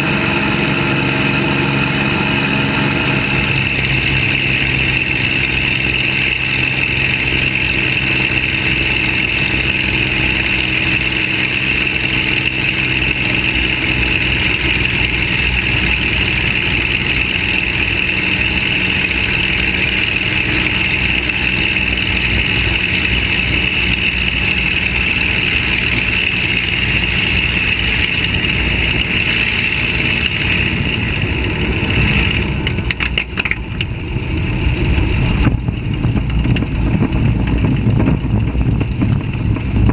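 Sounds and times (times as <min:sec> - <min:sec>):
engine crackles: 0:00.0 - 0:39.9
piston aircraft engine running: 0:00.0 - 0:39.9.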